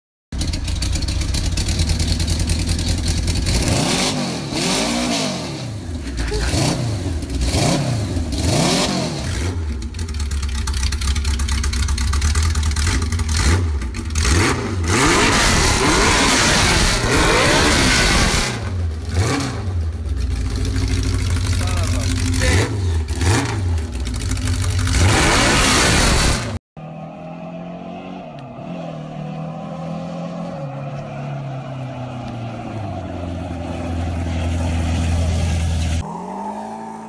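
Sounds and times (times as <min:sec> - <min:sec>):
motorcycle engine revving: 0:00.4 - 0:37.0.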